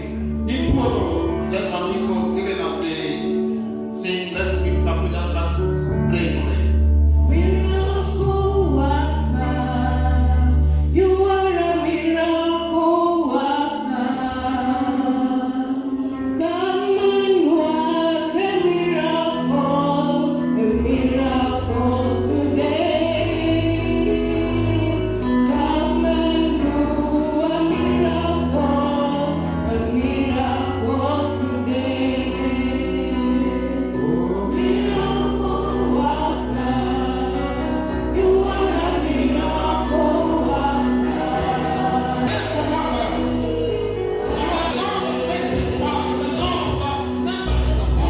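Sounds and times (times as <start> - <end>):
instrumental bass notes: 0.0 - 13.1, 19.4 - 48.0
choir singing gospel song: 0.0 - 48.0.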